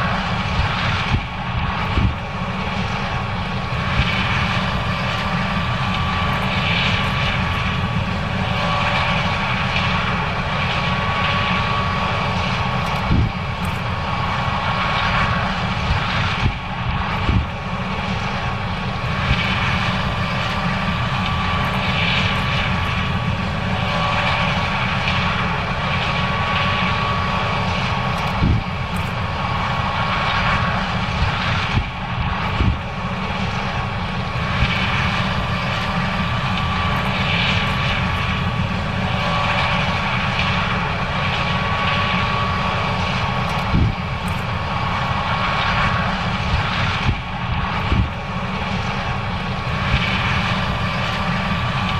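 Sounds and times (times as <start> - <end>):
combine harvester machinery drone: 0.0 - 51.9
thin steady whine: 0.0 - 51.9.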